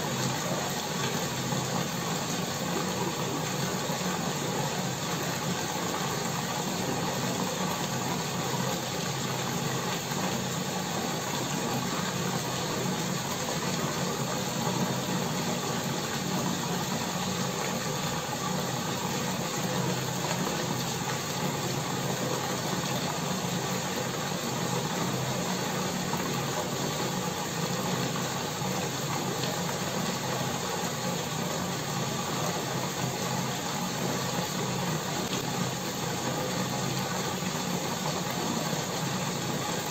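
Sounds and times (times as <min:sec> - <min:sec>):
air bubbles fizzing in water: 0:00.0 - 0:39.9.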